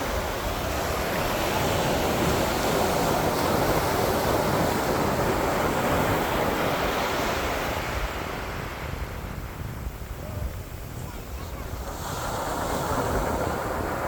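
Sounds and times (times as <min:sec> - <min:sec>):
surf crashing on beach: 0:00.0 - 0:14.0
wind buffeting microphone: 0:00.0 - 0:14.0.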